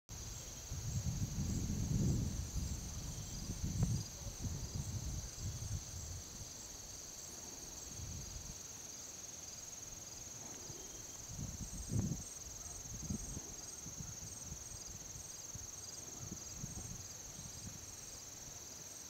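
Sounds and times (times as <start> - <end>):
wind rumbling on microphone: 0.1 - 8.7, 10.3 - 18.0
crickets trilling: 0.1 - 19.0.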